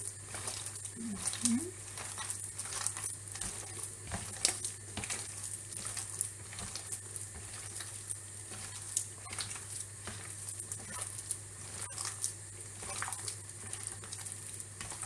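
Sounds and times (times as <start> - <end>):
wet squelches and slaps of kneading: 0.0 - 15.0.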